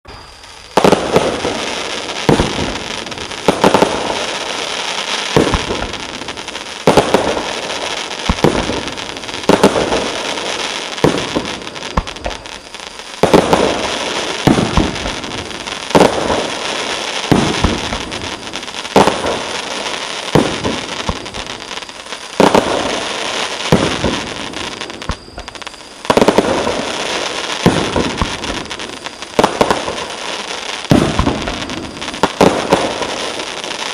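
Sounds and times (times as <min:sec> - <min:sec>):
dense firework crackling: 0:00.1 - 0:33.9
firework shots: 0:00.1 - 0:33.9.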